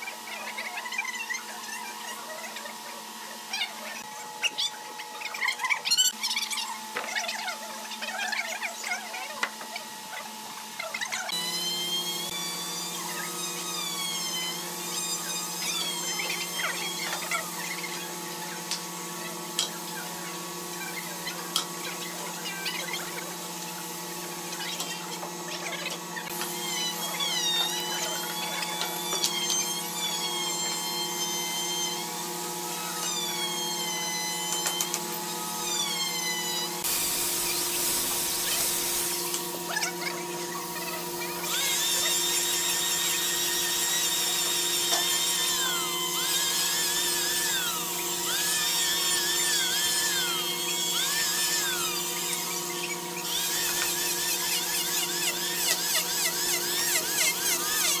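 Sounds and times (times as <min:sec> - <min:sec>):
electric power tool whining: 0:00.0 - 0:58.0
workshop machinery humming: 0:00.0 - 0:58.0.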